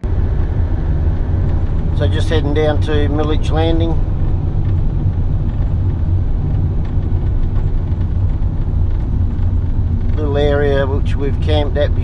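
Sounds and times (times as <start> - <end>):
van engine and tyres rumbling: 0.0 - 12.0.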